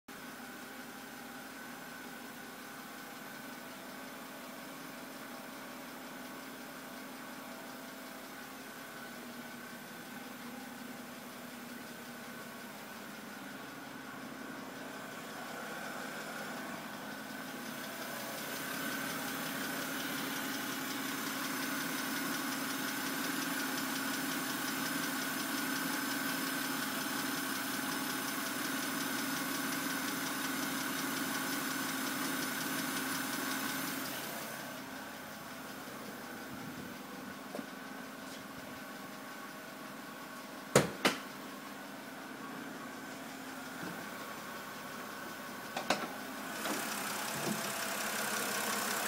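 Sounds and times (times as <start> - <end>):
car engine idling: 0.1 - 49.0
engine clicking: 7.2 - 49.0.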